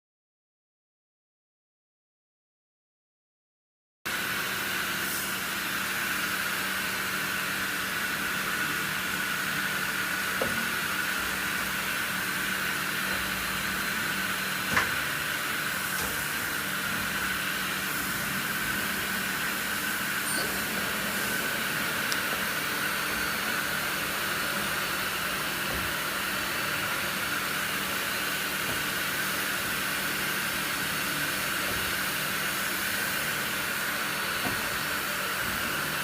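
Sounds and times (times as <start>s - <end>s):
lathe machine hum and hiss: 4.1s - 36.0s
constant machine whine: 4.2s - 36.0s.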